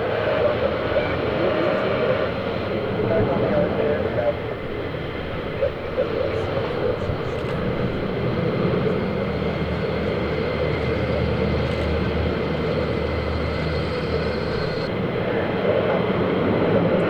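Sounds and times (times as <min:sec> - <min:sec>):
jet engine rush with whine: 0:00.0 - 0:17.0.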